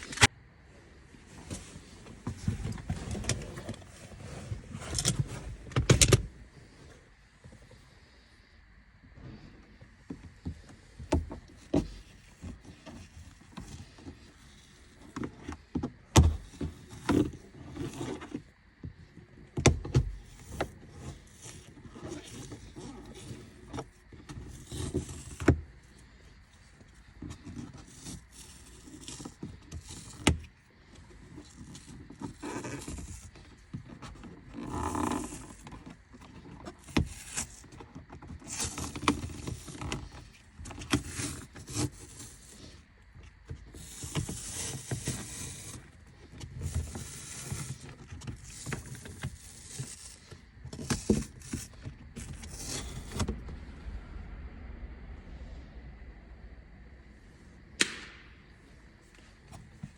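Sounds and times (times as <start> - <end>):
rustling and scraping: 0.0 - 8.4, 9.0 - 54.0, 58.5 - 59.9.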